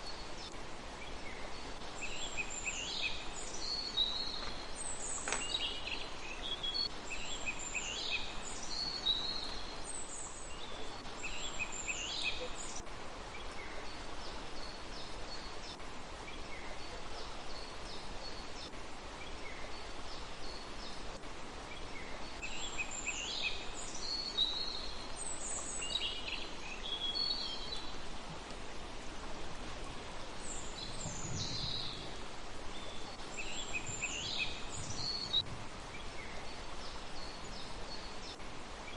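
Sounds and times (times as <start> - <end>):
small birds chirping: 0.0 - 38.9
steady outdoor hiss: 0.0 - 38.9.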